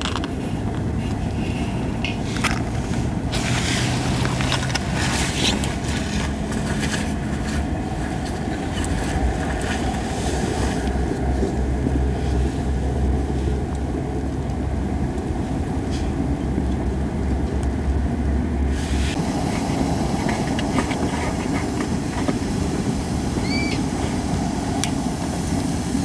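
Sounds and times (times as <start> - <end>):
fire hissing: 0.9 - 16.4, 18.7 - 26.0.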